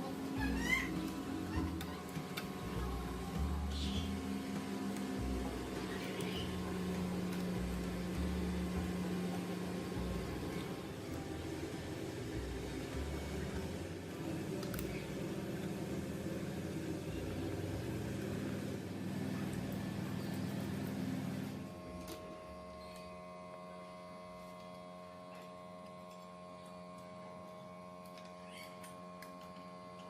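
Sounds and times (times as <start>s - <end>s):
small electric motor humming: 0.0s - 30.0s.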